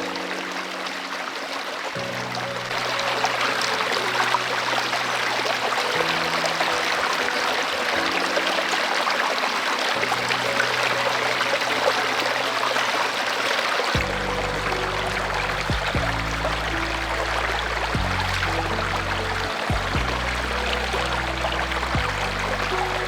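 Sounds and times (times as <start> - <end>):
flowing water rushing: 0.0 - 23.0
soft background music: 0.0 - 23.0.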